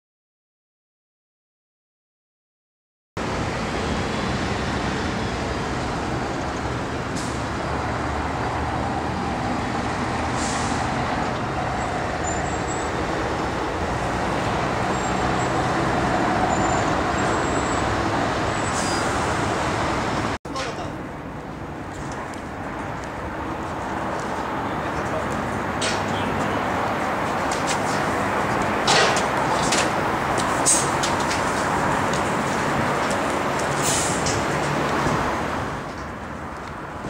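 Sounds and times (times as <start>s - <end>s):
broad rushing noise: 3.2s - 37.0s
heavy vehicle engines running: 3.2s - 37.0s.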